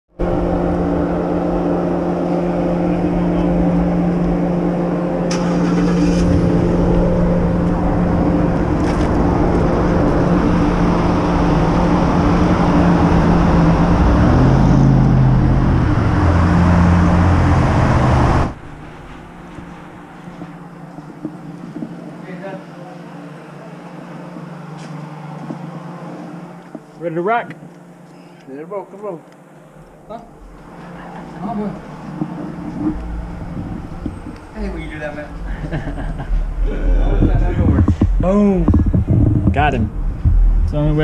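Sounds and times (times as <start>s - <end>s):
motor vehicle engine running: 0.1s - 28.1s, 29.5s - 41.0s.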